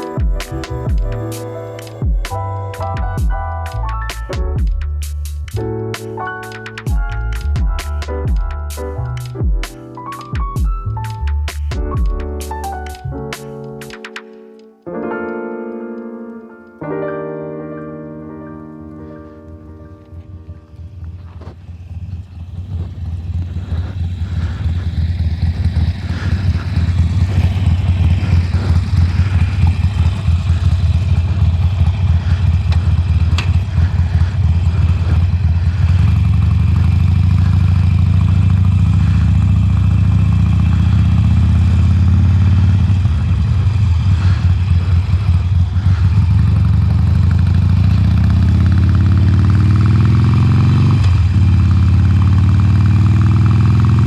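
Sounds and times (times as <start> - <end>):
motorcycle engine running: 0.0 - 13.1, 19.9 - 54.0.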